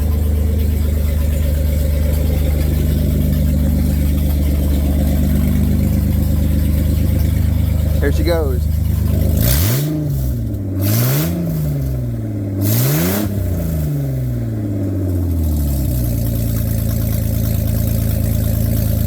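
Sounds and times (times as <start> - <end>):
car engine revving and idling: 0.0 - 19.0
raspy exhaust blast: 0.0 - 19.0.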